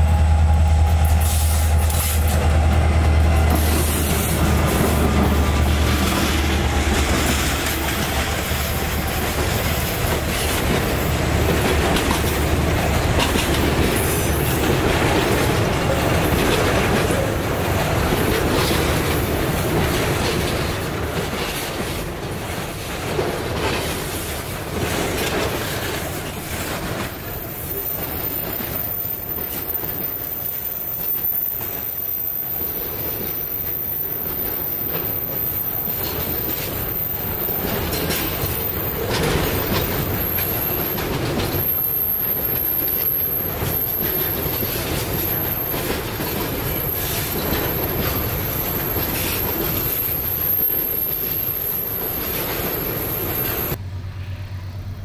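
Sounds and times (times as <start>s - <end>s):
freight train rumbling past: 0.0s - 55.0s
wheels clicking over rail joints: 0.6s - 53.8s.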